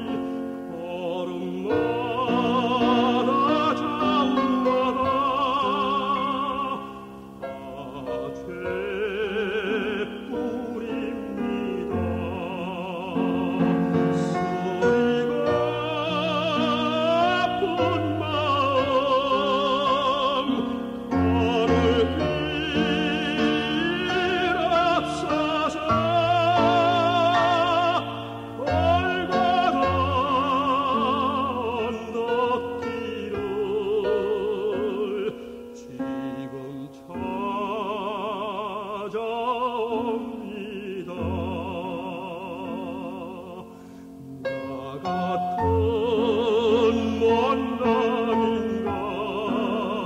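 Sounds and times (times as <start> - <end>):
tenor singing operatically: 0.0 - 50.0.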